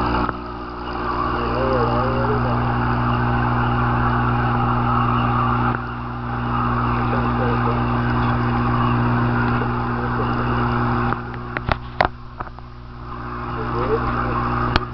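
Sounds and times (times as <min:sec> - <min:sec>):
electrical hum with hiss: 0:00.0 - 0:14.9.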